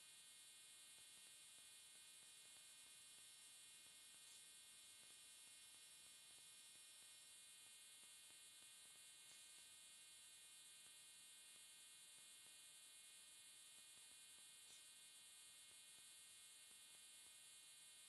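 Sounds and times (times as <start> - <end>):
faint recording hiss and hum: 0.0 - 18.0.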